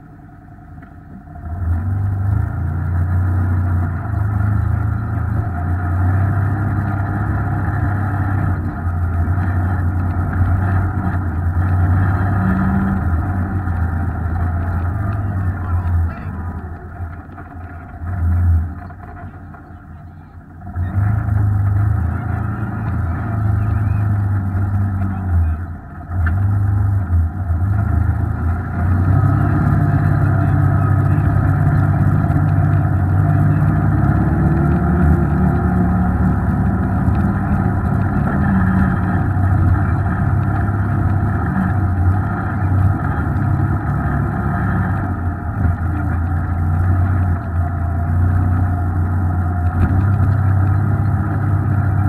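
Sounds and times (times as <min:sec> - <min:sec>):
off-road vehicle engine droning: 0:00.0 - 0:52.0.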